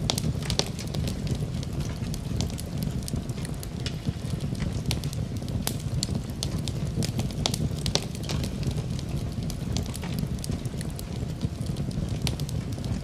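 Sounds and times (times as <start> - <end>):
low rumble: 0.0 - 13.0
wood fire crackling: 0.0 - 13.0.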